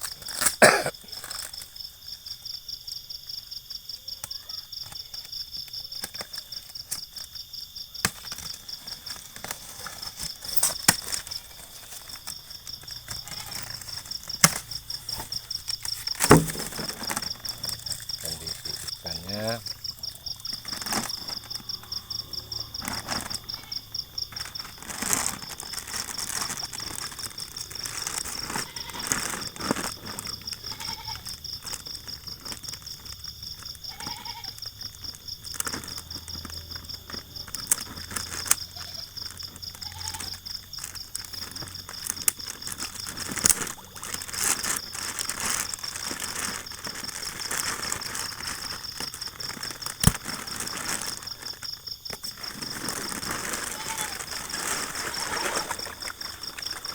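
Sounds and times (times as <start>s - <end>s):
rustling: 0.0s - 2.6s, 4.2s - 56.9s
insect trilling: 0.0s - 56.9s.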